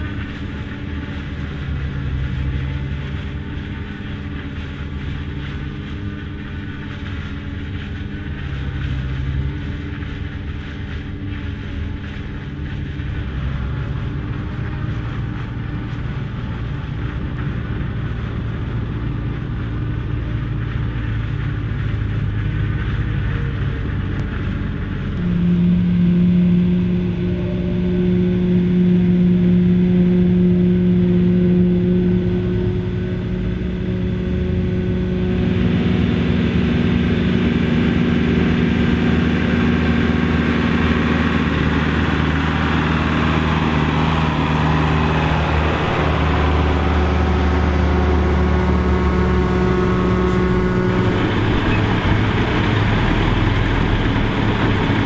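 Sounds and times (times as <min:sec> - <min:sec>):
noisy machinery: 0:00.0 - 0:55.0
tractor diesel engine running: 0:00.0 - 0:55.0.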